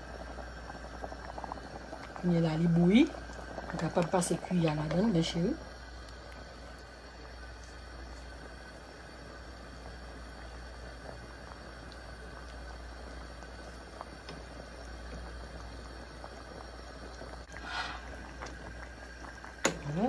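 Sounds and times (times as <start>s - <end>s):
broth bubbling with small pops: 0.0s - 20.0s.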